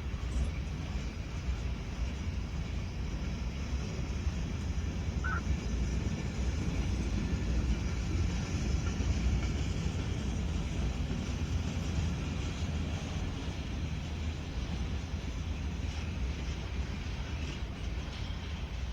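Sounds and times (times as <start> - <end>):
freight train rolling on rails: 0.0 - 18.9.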